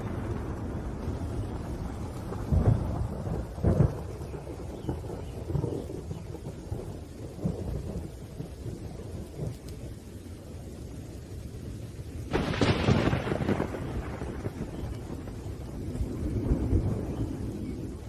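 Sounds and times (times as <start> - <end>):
thunderclap cracking: 0.0 - 10.2, 12.2 - 18.0
rolling thunder: 0.0 - 18.0
steady rain: 0.0 - 18.0.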